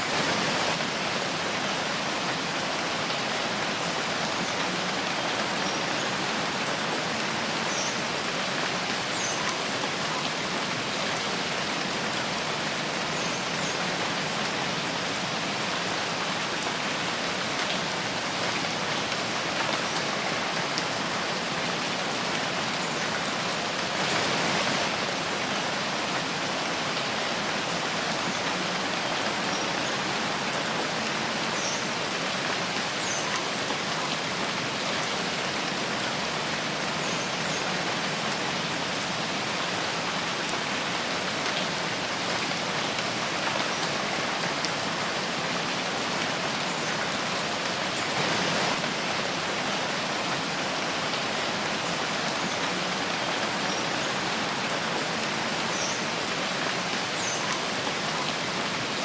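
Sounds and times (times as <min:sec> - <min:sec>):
steady rain in forest: 0:00.0 - 0:59.0.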